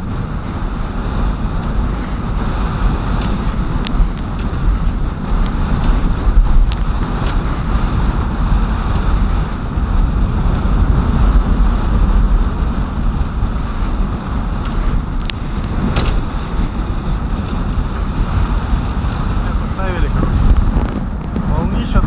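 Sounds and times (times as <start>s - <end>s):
waves against boat hull: 0.0s - 22.0s
wind buffeting microphone: 0.0s - 22.0s.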